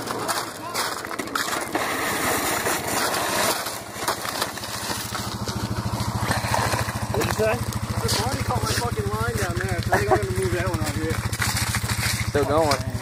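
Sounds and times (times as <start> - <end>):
engine idling: 0.5 - 13.0.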